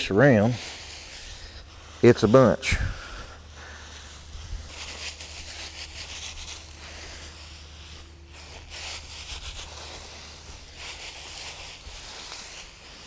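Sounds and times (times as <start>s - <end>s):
boots scuffing wood shavings: 0.0s - 13.0s.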